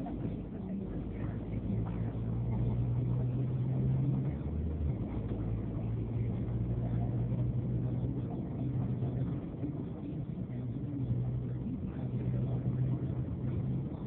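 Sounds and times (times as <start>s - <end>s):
road and traffic noise: 0.0s - 14.0s
vehicle engine humming: 0.0s - 14.0s.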